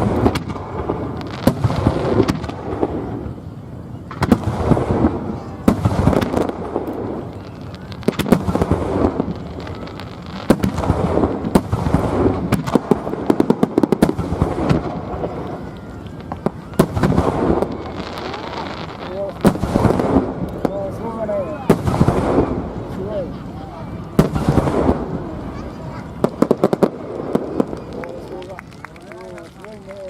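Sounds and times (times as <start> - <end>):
crackling pops: 0.0 - 3.0, 4.1 - 21.0, 24.0 - 30.0
fireworks bursting with echo: 0.0 - 30.0.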